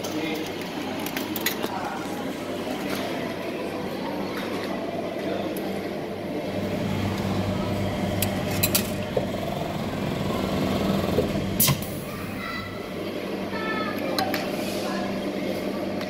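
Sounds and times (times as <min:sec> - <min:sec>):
ice cream machine humming: 0:00.0 - 0:16.0.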